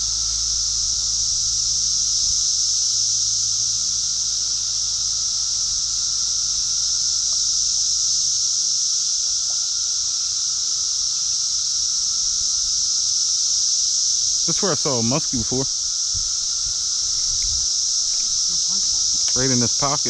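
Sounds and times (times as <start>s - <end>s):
insect chorus drone: 0.0s - 20.0s.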